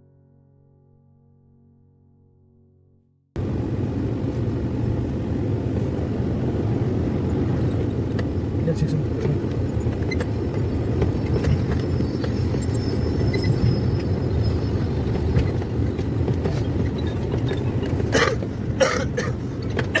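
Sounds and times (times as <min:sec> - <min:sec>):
vehicle rumbling on rough road: 0:03.4 - 0:20.0.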